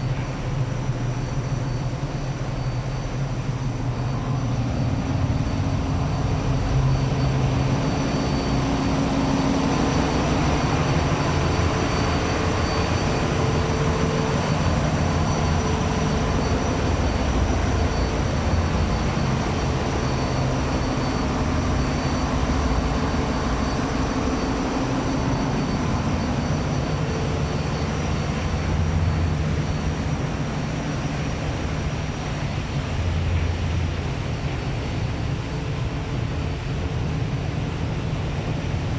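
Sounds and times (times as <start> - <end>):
boat engine rumbling: 0.0 - 38.9.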